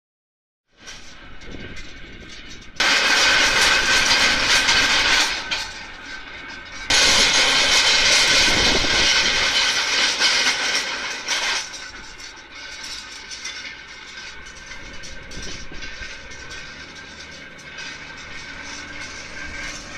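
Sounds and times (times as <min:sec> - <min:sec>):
harrow tines working turf: 0:00.8 - 0:19.9
tractor engine running: 0:00.9 - 0:19.9.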